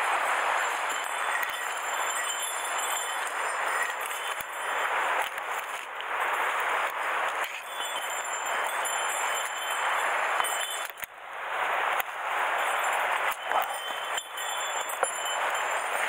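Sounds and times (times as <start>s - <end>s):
leaves rustling underfoot: 0.0s - 16.0s.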